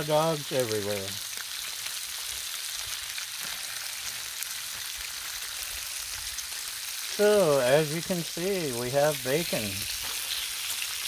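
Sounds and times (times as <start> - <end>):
bacon sizzling on a griddle: 0.0 - 11.0.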